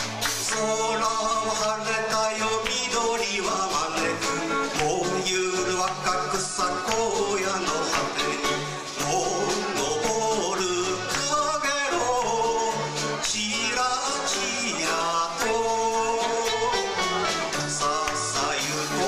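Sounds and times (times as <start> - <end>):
electric guitar: 0.0 - 19.0
live band playing: 0.0 - 19.0
man singing: 0.3 - 19.0.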